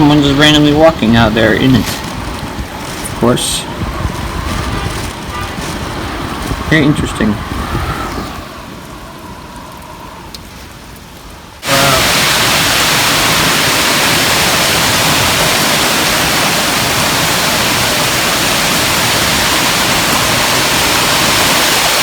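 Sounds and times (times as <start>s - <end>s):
heavy rain: 0.0s - 22.0s
strong wind: 0.0s - 22.0s.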